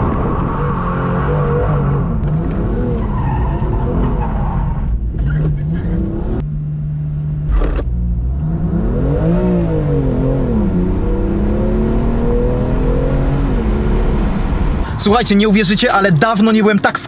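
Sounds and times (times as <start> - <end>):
car engine revving and accelerating: 0.0 - 15.1.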